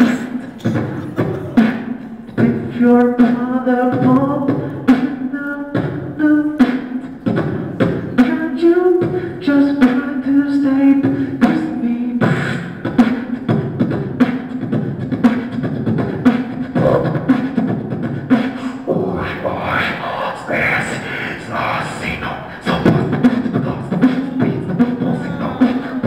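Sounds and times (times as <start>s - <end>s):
beatboxing mouth-drum beat: 0.0s - 26.0s.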